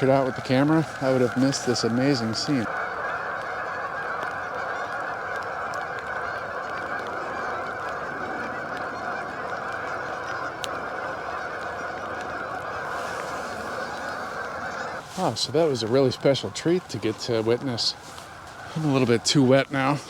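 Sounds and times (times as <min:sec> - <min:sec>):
flock of geese honking: 0:00.0 - 0:20.0.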